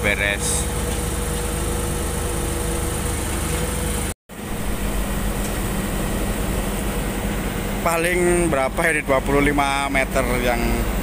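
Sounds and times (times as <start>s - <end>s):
grader diesel engine running: 0.0s - 11.0s.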